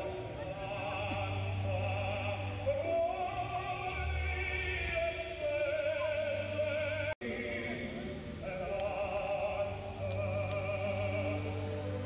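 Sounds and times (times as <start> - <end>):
operatic singing voice: 0.0 - 12.0.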